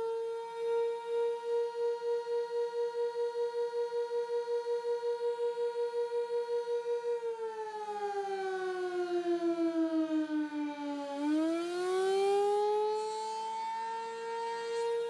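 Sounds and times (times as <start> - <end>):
warning siren: 0.0 - 15.0.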